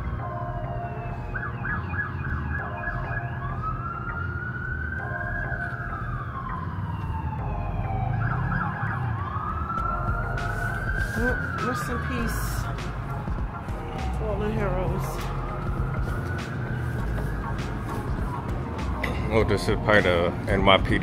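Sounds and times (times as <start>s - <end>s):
siren rapid yelps: 0.0s - 18.8s
siren wailing: 0.0s - 20.6s.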